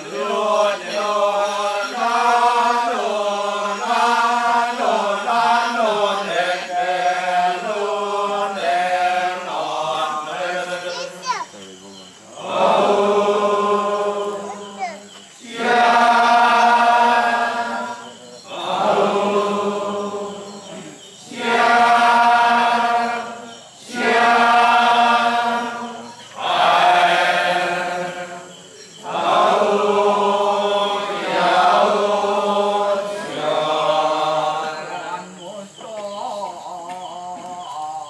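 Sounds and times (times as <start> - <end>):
men chanting in a circle: 0.0 - 38.0.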